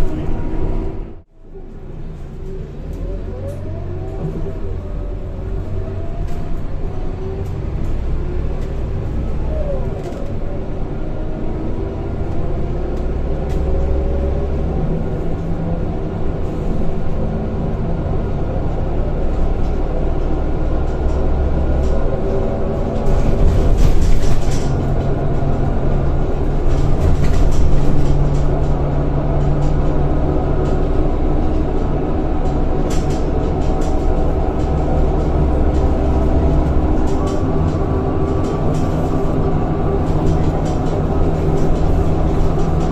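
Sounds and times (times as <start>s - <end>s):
bus engine rumble: 0.0s - 42.9s.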